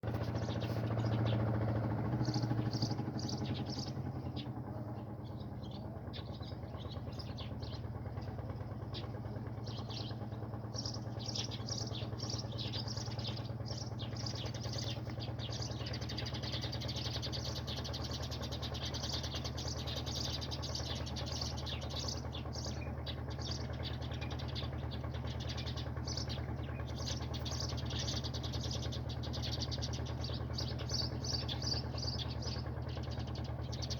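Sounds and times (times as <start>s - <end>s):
low mechanical hum: 0.0s - 33.9s
small birds chirping: 0.0s - 33.9s.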